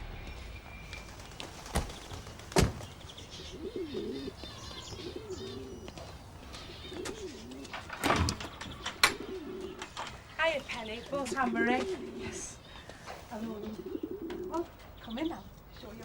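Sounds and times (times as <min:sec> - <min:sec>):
small birds chirping: 0:00.0 - 0:16.0
pigeons cooing: 0:00.9 - 0:15.4.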